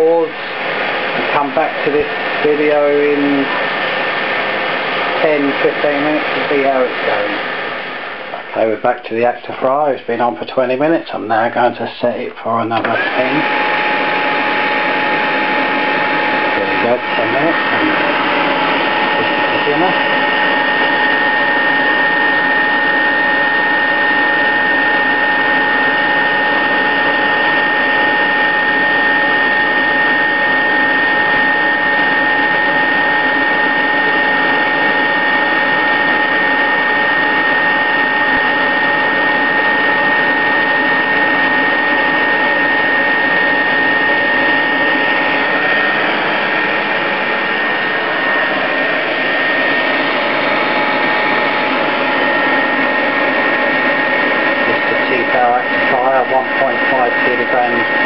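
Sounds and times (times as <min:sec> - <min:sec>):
air fryer fan whirring: 0:00.0 - 0:58.0.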